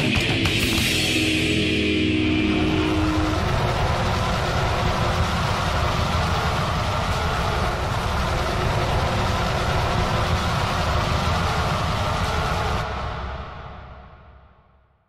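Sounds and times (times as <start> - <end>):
loud low rumbling: 0.6 - 14.4.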